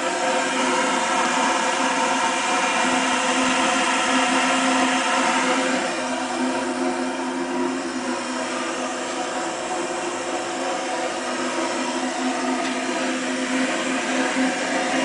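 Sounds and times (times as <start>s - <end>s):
machinery whirring and humming: 0.0s - 15.0s.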